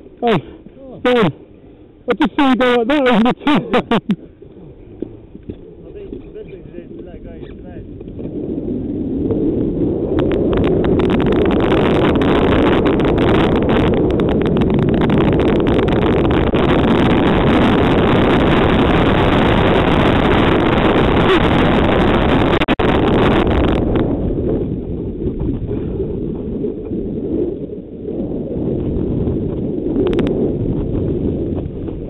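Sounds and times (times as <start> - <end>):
wind rushing on microphone: 0.0 - 32.0.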